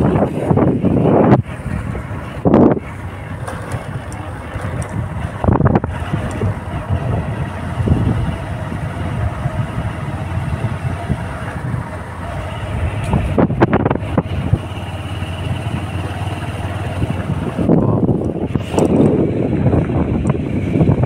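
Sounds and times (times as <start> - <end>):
steady rushing noise: 0.0 - 21.0
wind buffeting microphone: 0.0 - 21.0.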